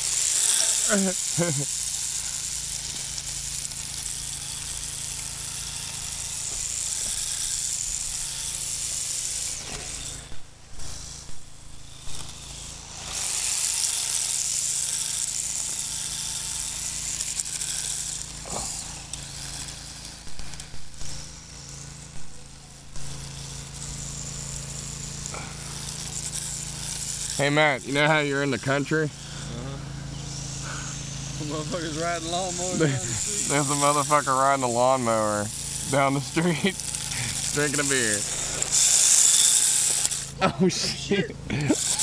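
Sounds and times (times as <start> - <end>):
rc car motor whine: 0.0 - 42.0
steady low drone: 2.1 - 42.0.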